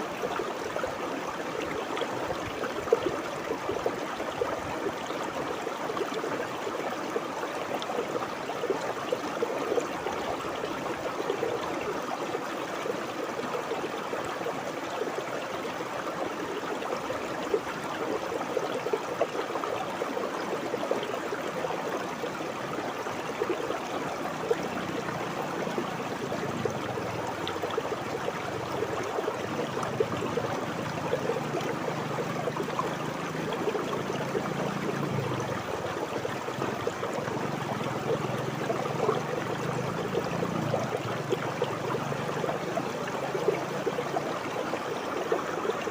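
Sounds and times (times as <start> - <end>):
river water babbling over stones: 0.0 - 45.9.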